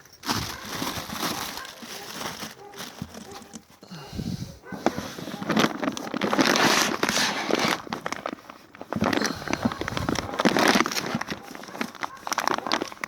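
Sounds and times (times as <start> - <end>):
packaging crinkling: 0.0 - 3.8, 4.6 - 13.0.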